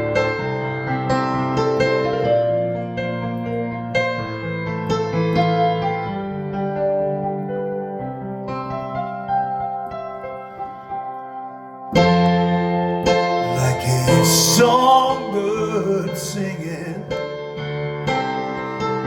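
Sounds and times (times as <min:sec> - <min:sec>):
piano-like keyboard chords: 0:00.0 - 0:19.0.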